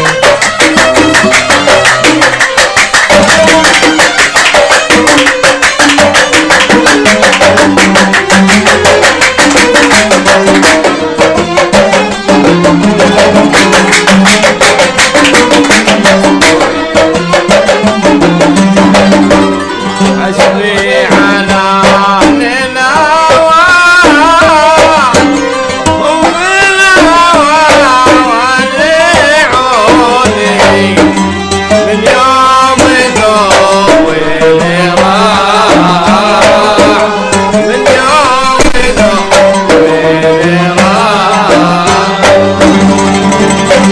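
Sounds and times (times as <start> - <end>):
hand drum rhythm: 0.0 - 43.9
violins and qanun melody: 0.0 - 43.9.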